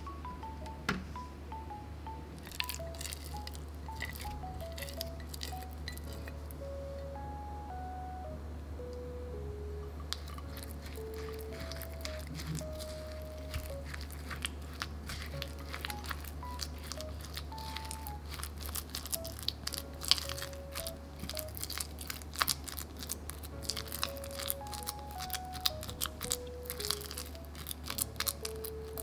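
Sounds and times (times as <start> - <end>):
soft background music: 0.0 - 29.0.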